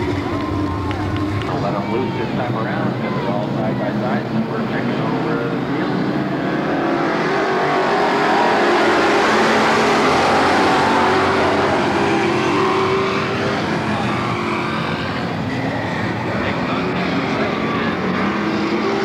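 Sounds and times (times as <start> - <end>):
race car engines at full throttle: 0.0 - 19.0.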